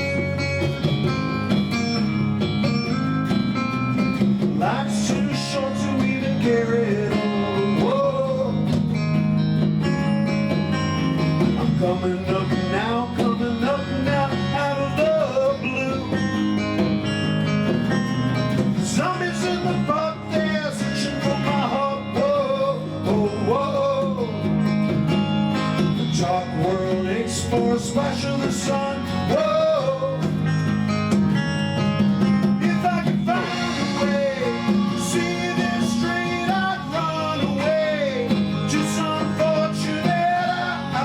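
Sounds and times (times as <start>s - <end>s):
bending lead melody: 0.0s - 41.0s
guitars: 0.0s - 41.0s
steady bass: 0.0s - 41.0s.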